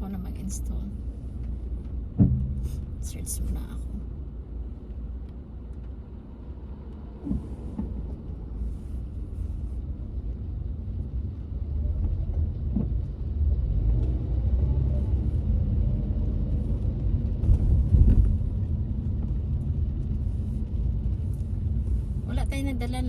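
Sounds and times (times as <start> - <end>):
car cabin road noise: 0.0 - 23.0.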